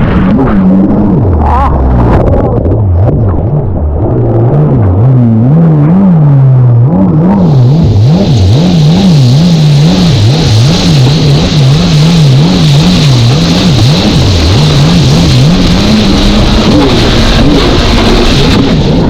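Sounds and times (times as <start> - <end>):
jet ski engine running hard: 0.0 - 19.0
rush of wind and water: 0.0 - 19.0.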